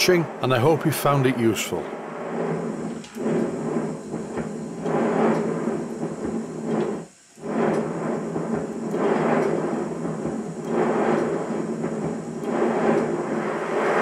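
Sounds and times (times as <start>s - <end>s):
model locomotive knocking rumble: 2.7s - 14.0s.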